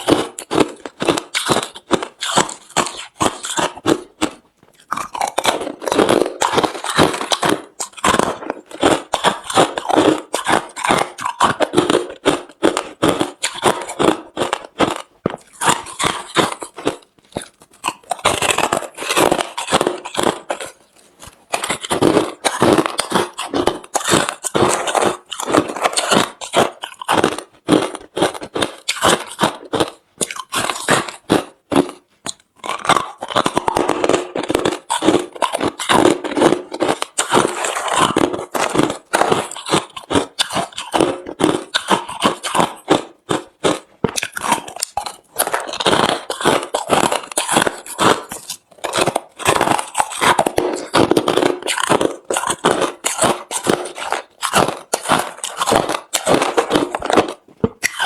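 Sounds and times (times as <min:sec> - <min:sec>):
person chewing crushed ice: 0:00.0 - 0:58.0.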